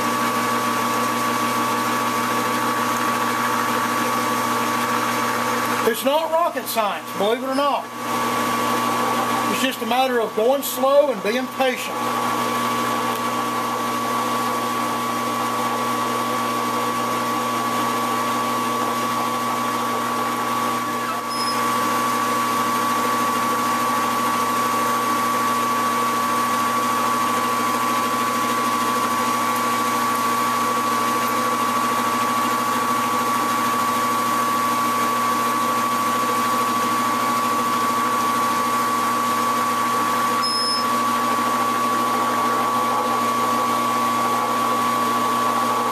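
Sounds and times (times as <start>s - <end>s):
lathe motor whine and hum: 0.0s - 45.9s.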